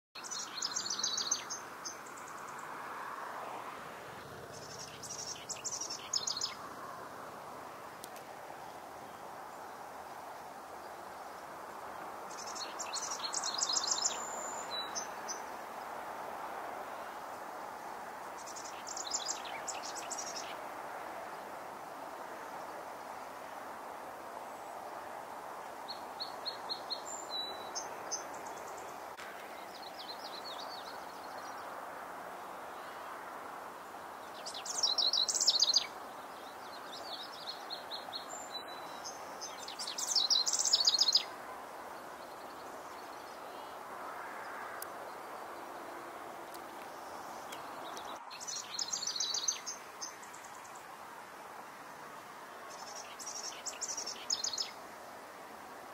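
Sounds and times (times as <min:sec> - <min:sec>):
songbirds trilling: 0:00.2 - 0:02.8, 0:04.2 - 0:07.1, 0:08.0 - 0:16.0, 0:16.9 - 0:22.9, 0:25.7 - 0:33.2, 0:33.9 - 0:51.0, 0:52.5 - 0:54.9
steady background hiss: 0:00.2 - 0:55.9.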